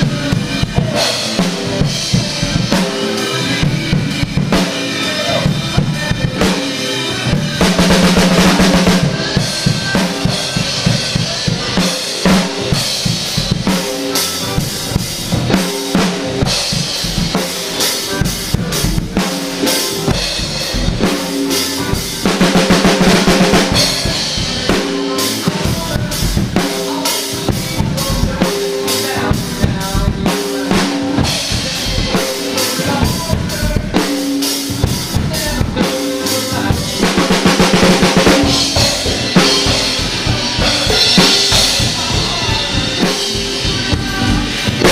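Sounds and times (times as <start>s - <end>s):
drum kit groove: 0.0s - 44.9s
recorded song: 0.0s - 44.9s.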